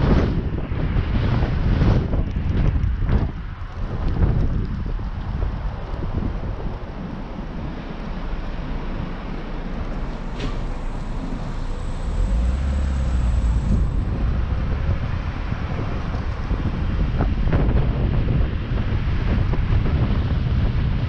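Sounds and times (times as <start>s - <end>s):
vehicle road noise: 0.0s - 21.0s
wind rumbling on microphone: 0.0s - 21.0s.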